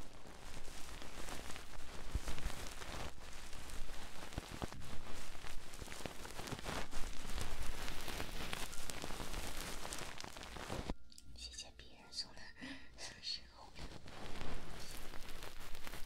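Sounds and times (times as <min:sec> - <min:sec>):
scratching and rustling on microphone: 0:00.0 - 0:11.0, 0:13.6 - 0:16.0.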